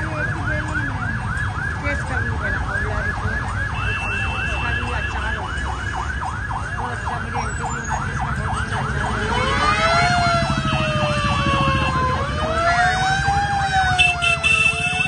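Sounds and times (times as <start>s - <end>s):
siren slow wail: 0.0s - 15.0s
street traffic rumble: 0.0s - 15.0s
siren fast yelp: 0.1s - 15.0s.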